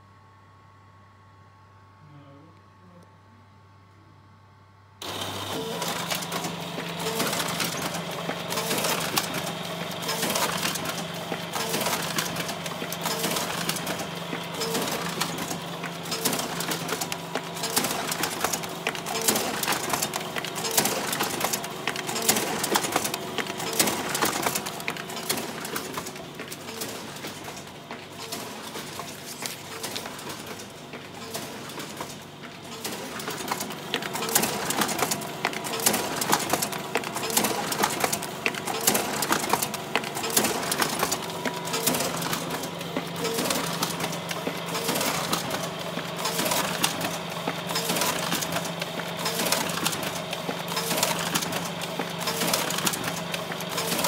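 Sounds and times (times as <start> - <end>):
machine mechanical whir: 5.0 - 54.0.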